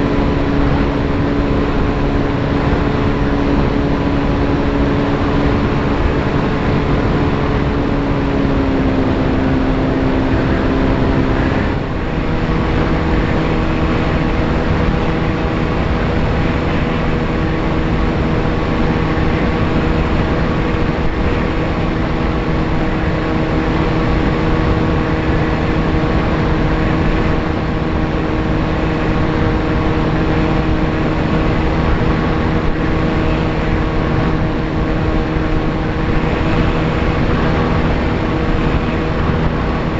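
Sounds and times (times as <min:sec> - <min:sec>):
electric motor and propeller whine: 0:00.0 - 0:39.9
wind rush on microphone: 0:00.0 - 0:39.9.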